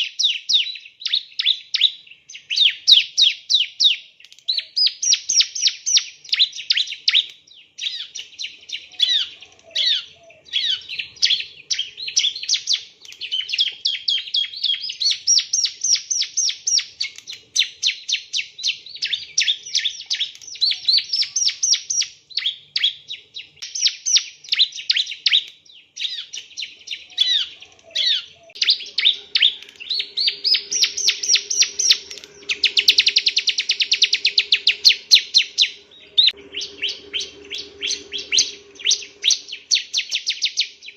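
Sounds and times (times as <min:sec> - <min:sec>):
bird singing high chirps: 0:00.0 - 0:40.9.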